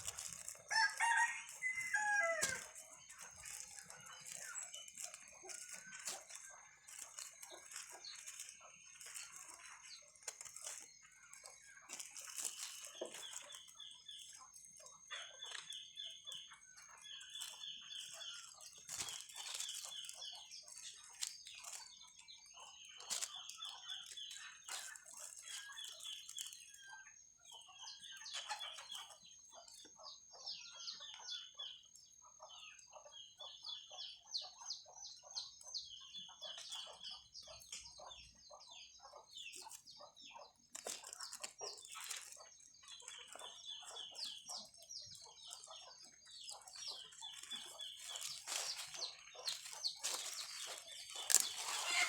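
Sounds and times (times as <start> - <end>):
birds calling: 0.0 - 52.0
chickens clucking: 0.0 - 52.0.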